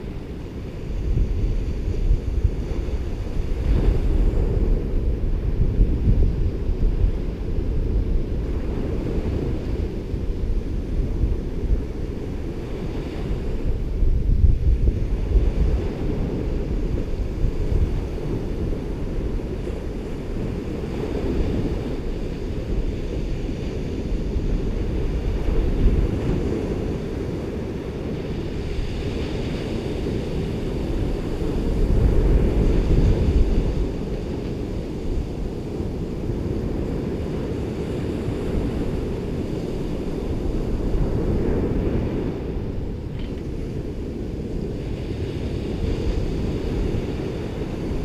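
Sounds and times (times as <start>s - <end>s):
ocean waves breaking: 0.0s - 48.0s
wind buffeting microphone: 0.0s - 48.0s.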